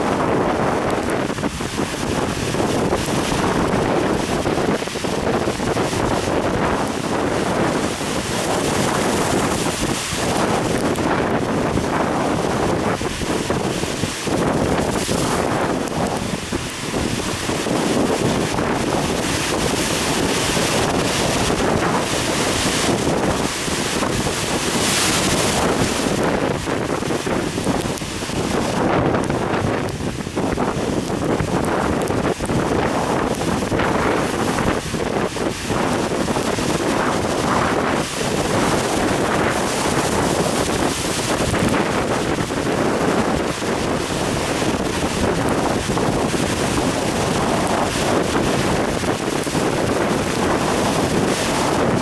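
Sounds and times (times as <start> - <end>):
surf breaking: 0.0 - 52.0
wind buffeting microphone: 0.0 - 52.0.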